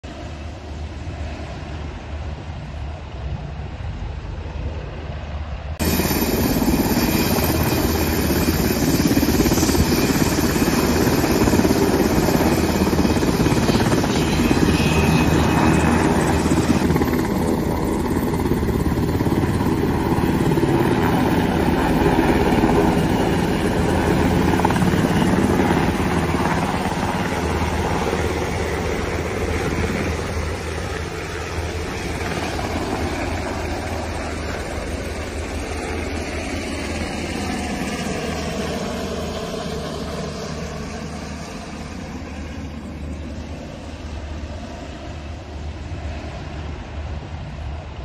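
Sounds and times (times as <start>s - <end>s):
helicopter rotor and turbine noise: 0.0s - 48.0s.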